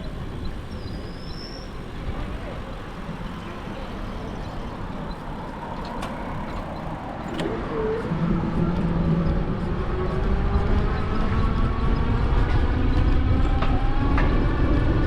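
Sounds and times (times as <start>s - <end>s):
road traffic passing: 0.0s - 15.0s
vehicle engine: 0.0s - 15.0s.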